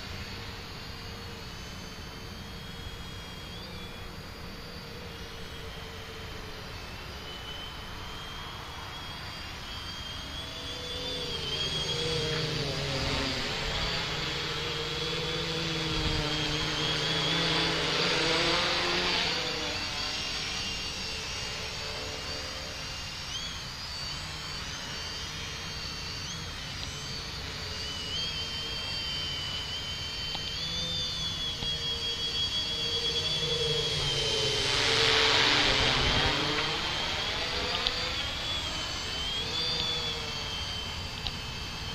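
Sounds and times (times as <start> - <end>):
drone propellers whining: 0.0 - 41.9.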